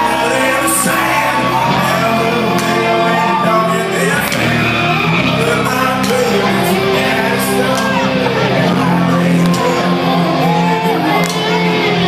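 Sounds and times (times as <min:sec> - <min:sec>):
lead singer vocals: 0:00.0 - 0:12.0
live hard rock band: 0:00.0 - 0:12.0.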